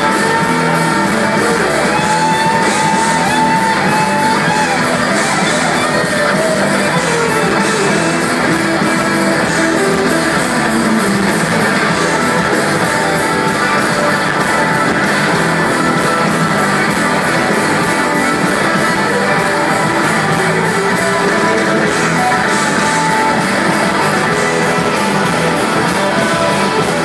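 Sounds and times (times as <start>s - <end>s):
electric guitar solo: 0.0s - 27.0s
live rock band: 0.0s - 27.0s
steady drum beat: 0.0s - 27.0s.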